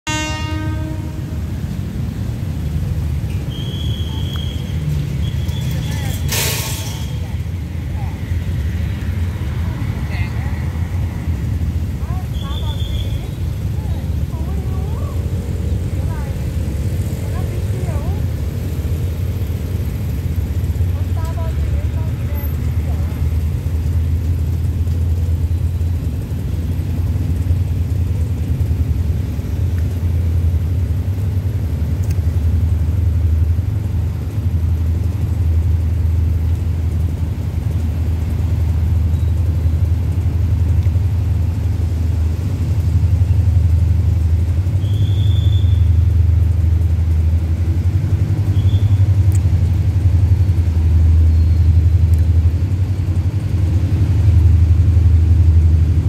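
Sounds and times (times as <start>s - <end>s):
diesel locomotive rumble: 0.0s - 56.0s.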